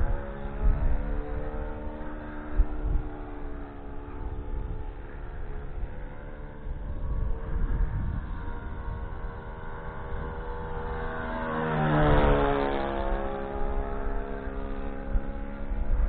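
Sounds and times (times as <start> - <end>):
model airplane engine flying past: 0.0 - 16.0.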